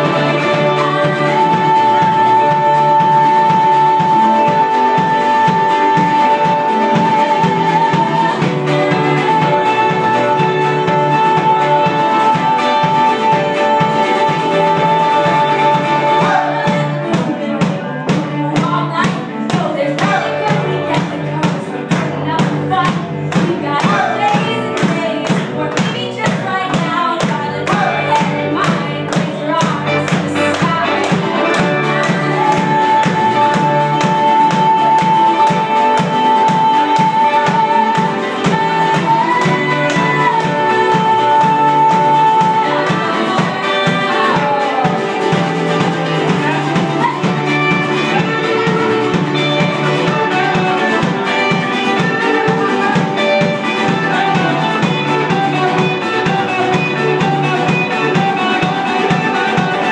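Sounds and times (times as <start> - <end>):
folk-rock band playing: 0.0 - 59.9.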